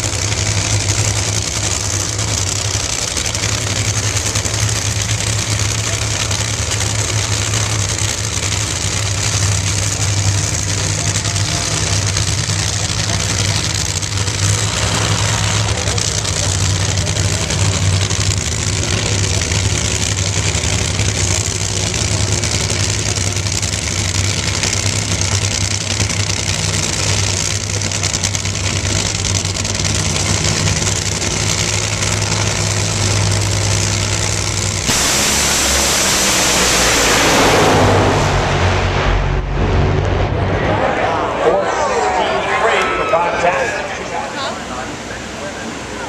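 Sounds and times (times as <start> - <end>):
drag car engines at full throttle: 0.0 - 46.0
drag car engines idling: 0.0 - 46.0.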